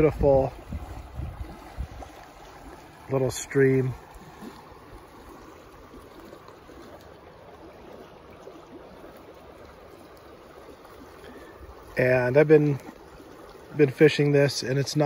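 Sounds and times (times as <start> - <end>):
stream running over gravel and rocks: 0.0 - 15.0.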